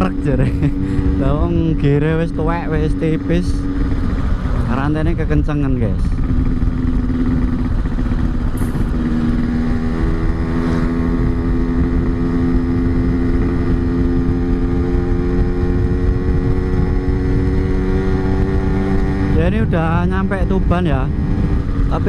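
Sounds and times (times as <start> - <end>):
two-stroke motorcycle engine running: 0.0 - 22.0.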